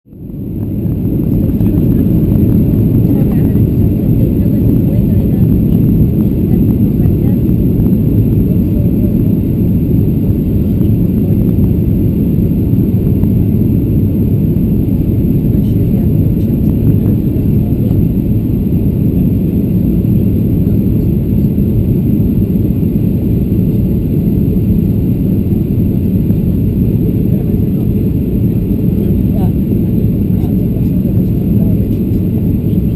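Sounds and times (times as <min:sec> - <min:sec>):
airplane cabin rumble: 0:00.1 - 0:32.9.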